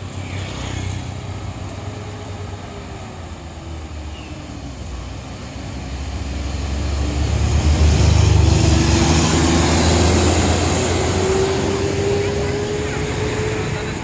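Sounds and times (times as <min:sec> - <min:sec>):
coach bus driving past: 0:00.0 - 0:14.0.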